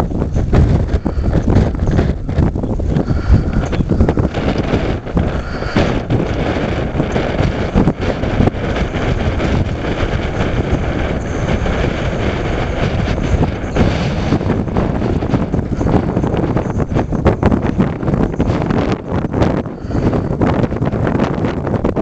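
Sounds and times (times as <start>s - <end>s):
wind buffeting the microphone: 0.0s - 22.0s.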